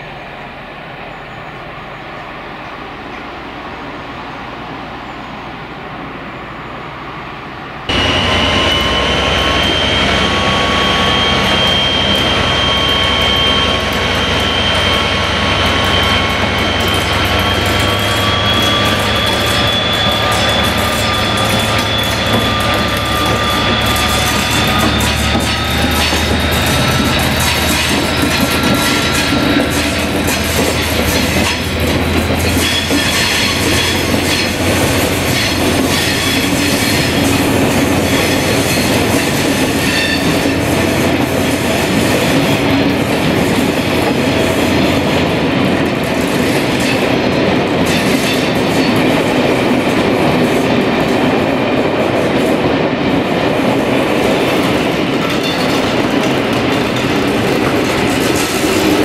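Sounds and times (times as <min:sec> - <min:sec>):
diesel locomotive engine: 0:00.0 - 0:59.0
train wheels rolling on track: 0:00.0 - 0:59.0.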